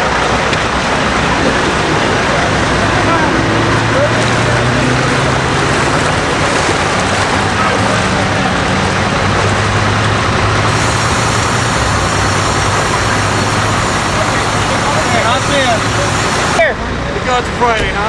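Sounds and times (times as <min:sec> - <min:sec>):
fire engine running: 0:00.0 - 0:18.0.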